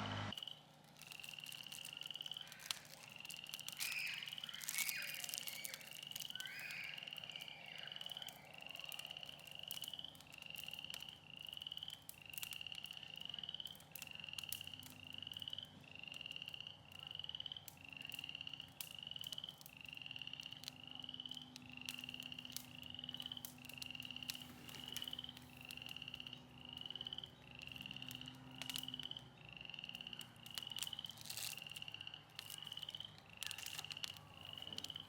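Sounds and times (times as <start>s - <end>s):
faint clicks: 0.3s - 35.0s
small animal trilled call: 0.4s - 14.6s, 15.3s - 35.0s.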